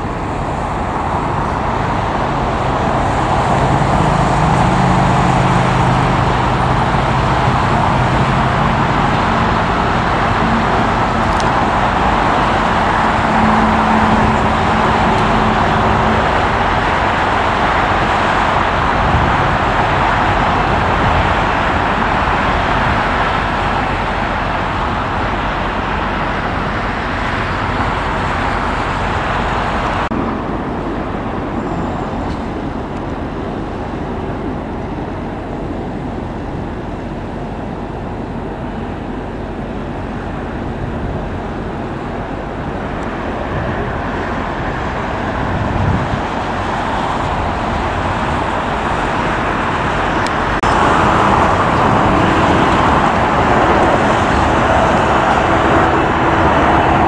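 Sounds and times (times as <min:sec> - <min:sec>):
jet engines running: 0:00.0 - 0:57.0
jet taking off: 0:00.0 - 0:57.0.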